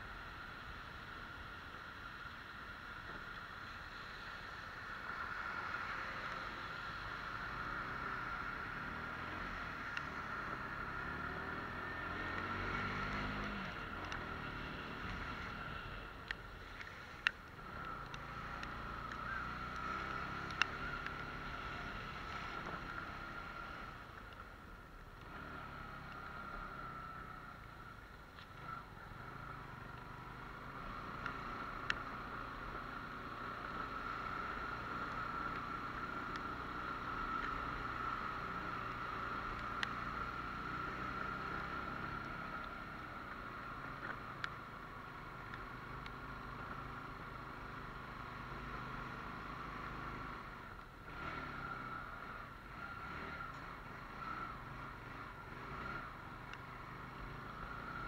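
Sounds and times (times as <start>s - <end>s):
motorcycle engine revving: 5.3s - 16.0s, 17.6s - 24.1s, 28.6s - 58.0s.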